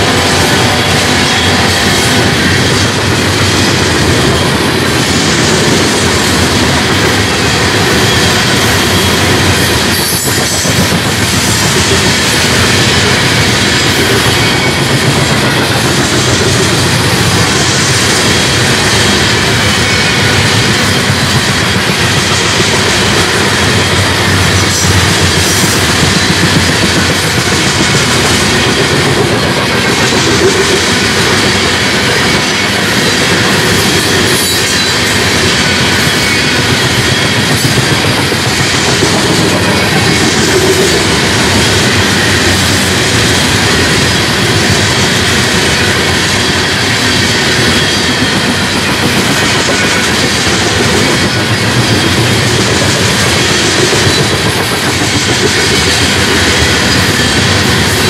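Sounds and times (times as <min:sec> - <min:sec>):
train wheels clattering: 0:00.0 - 0:58.0.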